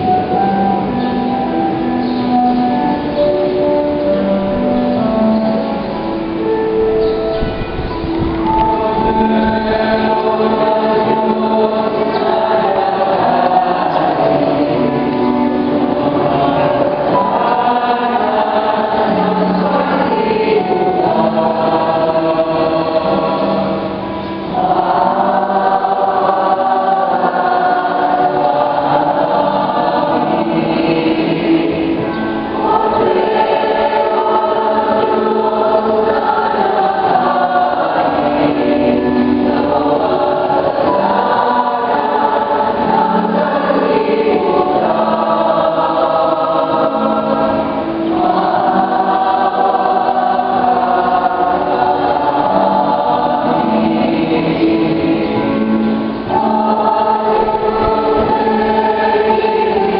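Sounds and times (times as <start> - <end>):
choir and congregation singing hymn: 0.0 - 59.9.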